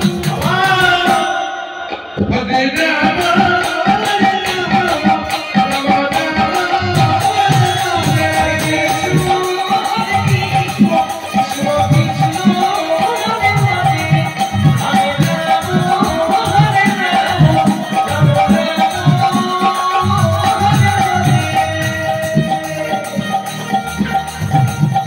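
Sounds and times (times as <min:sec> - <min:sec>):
hand drum beats: 0:00.0 - 0:25.0.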